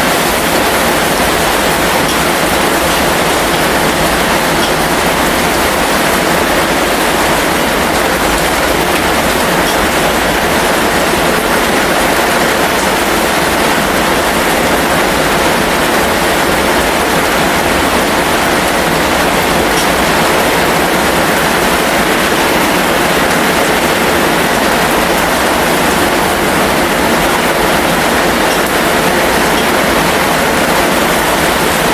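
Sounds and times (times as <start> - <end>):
heavy rain: 0.0 - 31.9.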